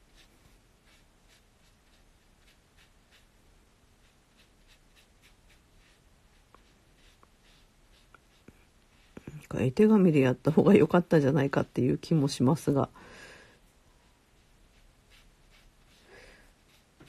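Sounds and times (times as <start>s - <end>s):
brush pen strokes on paper: 0.0s - 11.8s, 13.6s - 17.0s.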